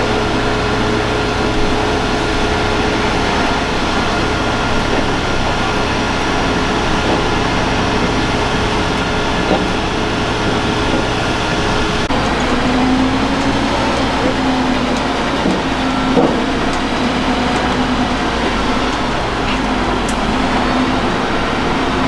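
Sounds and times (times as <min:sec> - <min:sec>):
heavy truck engine drone: 0:00.0 - 0:22.0.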